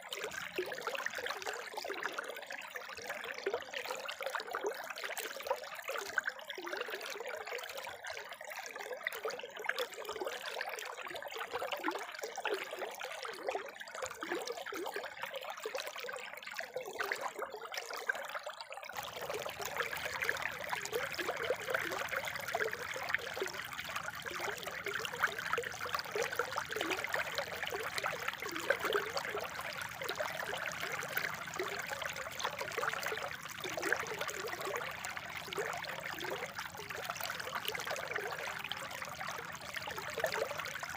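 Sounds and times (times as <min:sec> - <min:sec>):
spring water trickling and splashing: 0:00.0 - 0:40.9.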